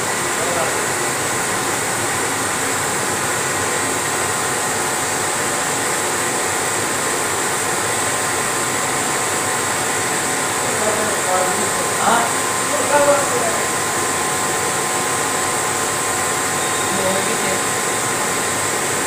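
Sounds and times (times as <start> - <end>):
laser engraving machine running: 0.0 - 19.0.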